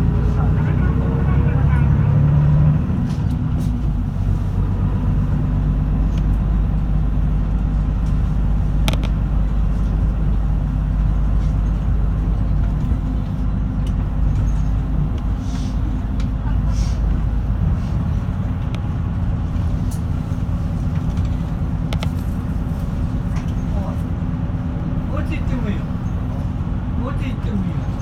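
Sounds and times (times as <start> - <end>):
bus engine drone: 0.0 - 28.0
road noise: 0.0 - 28.0.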